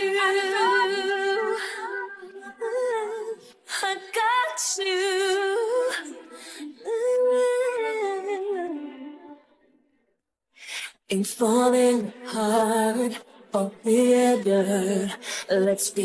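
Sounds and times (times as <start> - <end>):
woman singing a pop ballad: 0.0 - 9.5, 10.7 - 16.0.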